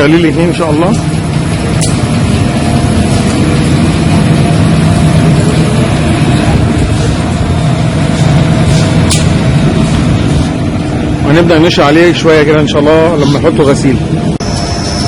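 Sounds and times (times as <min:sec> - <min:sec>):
laundry machinery hum and rumble: 0:00.0 - 0:15.0.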